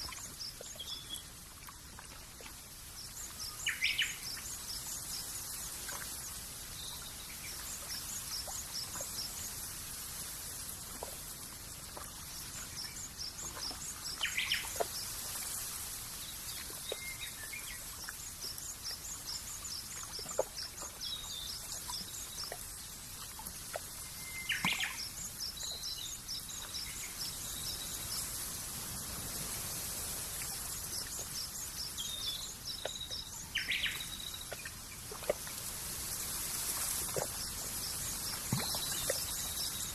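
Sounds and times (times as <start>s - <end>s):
steady soft hiss: 2.6s - 39.9s.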